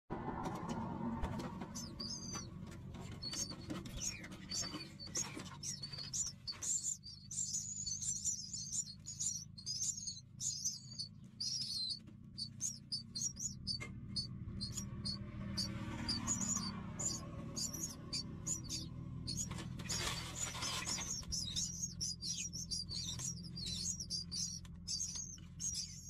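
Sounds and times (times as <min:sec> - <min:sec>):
low steady hum: 0:00.1 - 0:26.0
nestlings cheeping: 0:01.3 - 0:26.0.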